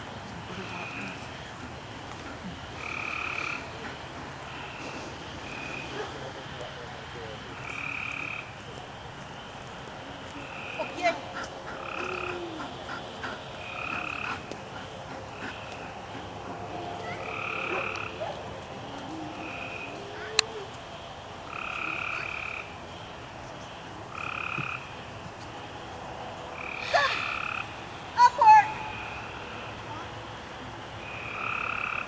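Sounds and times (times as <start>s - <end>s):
frogs calling: 0.0s - 32.0s.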